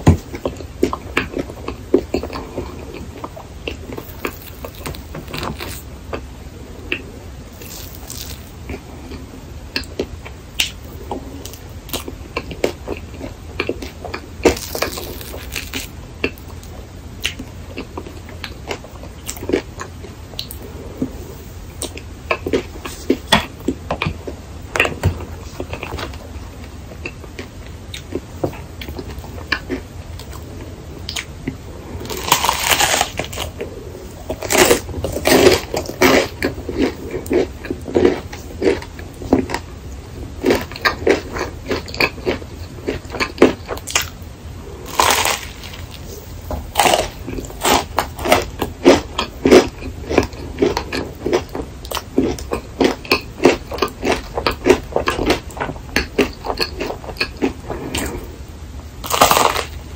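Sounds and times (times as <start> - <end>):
crunchy chewing: 0.2 - 58.4, 59.0 - 59.9.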